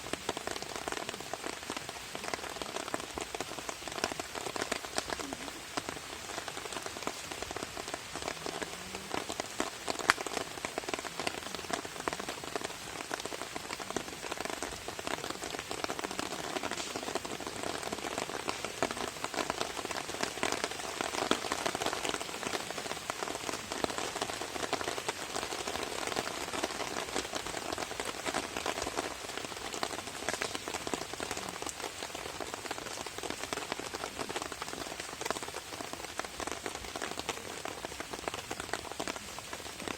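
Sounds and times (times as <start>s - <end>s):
rain falling on a tarp: 0.0s - 39.9s.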